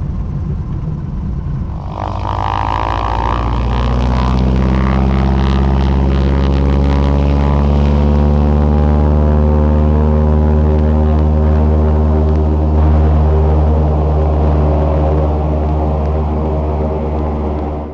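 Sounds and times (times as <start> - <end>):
propeller plane engine droning: 0.0 - 17.9.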